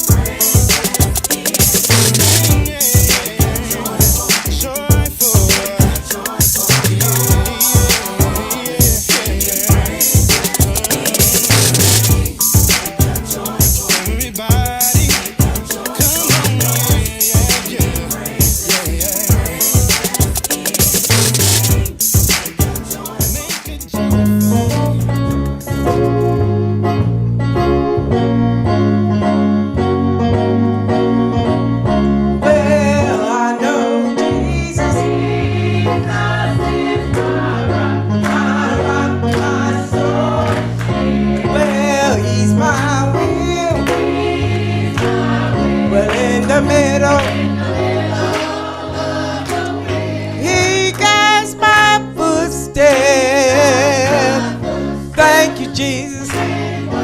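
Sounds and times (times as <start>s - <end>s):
people singing: 0.0s - 25.2s, 32.4s - 57.0s
band playing gospel music: 0.0s - 57.0s.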